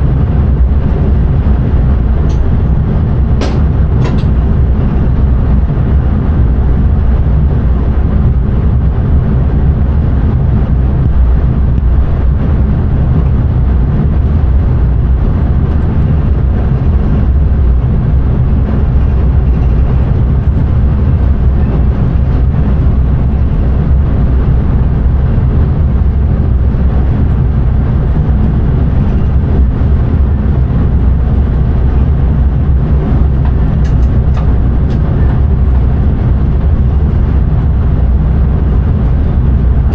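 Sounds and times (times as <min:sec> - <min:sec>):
train rumbling from cab: 0:00.0 - 0:39.9.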